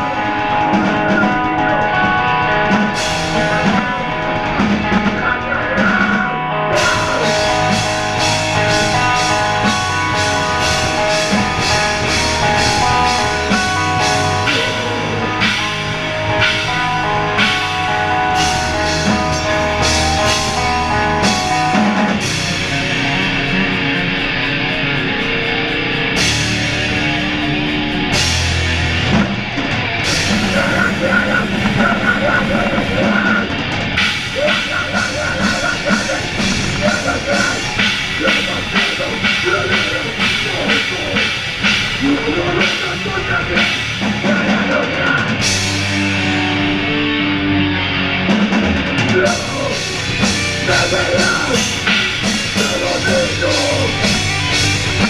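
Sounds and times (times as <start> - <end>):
drum kit: 0.0 - 55.0
metal band playing live: 0.0 - 55.0
ringing guitar chords: 0.0 - 55.0.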